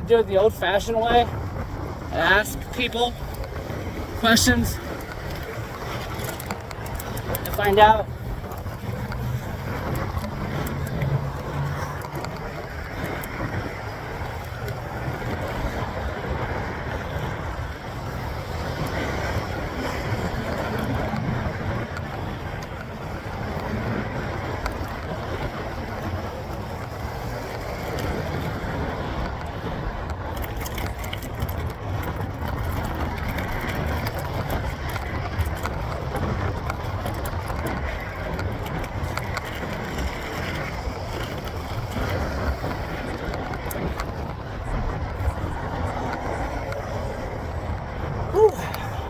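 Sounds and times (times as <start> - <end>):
bike tyre rumble on pavement: 0.0 - 49.0
wind rush on microphone: 0.0 - 49.0
small clicks and rattles: 2.4 - 15.8, 18.1 - 49.0.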